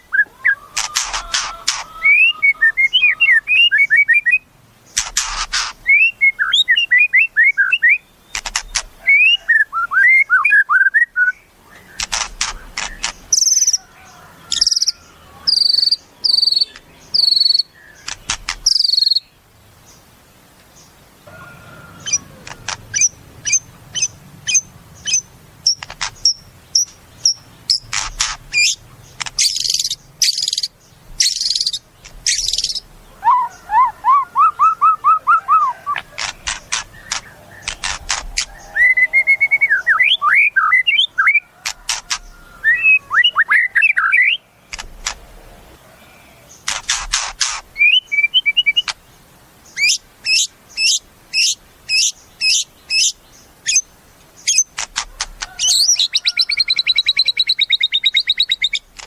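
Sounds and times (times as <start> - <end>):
bird singing varied song: 0.0 - 59.0.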